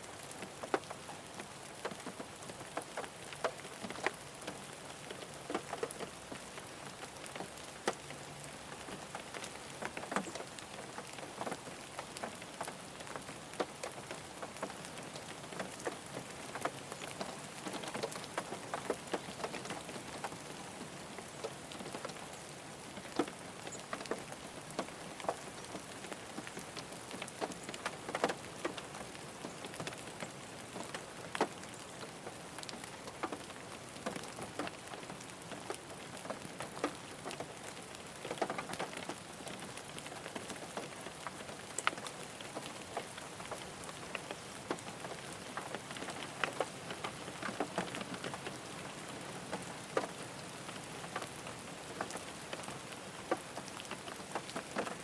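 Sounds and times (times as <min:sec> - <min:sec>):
rain pattering on a car: 0:00.0 - 0:55.0.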